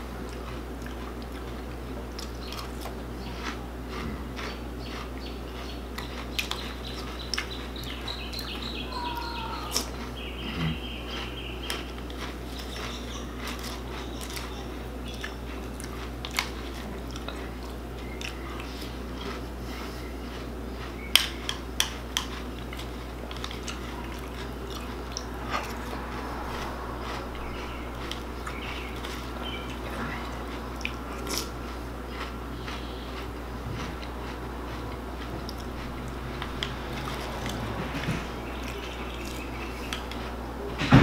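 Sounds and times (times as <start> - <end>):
chewing crunchy cereal: 0.0 - 40.6.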